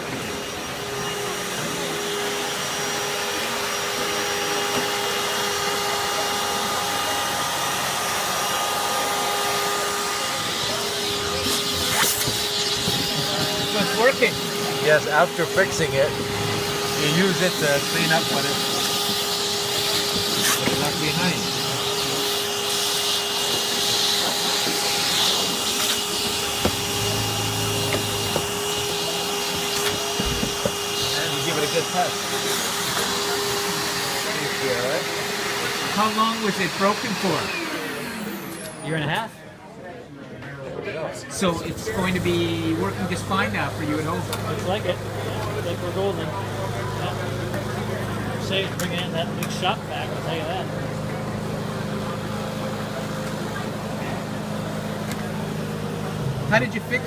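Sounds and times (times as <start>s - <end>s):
vacuum cleaner running: 0.0s - 39.3s, 41.3s - 57.0s.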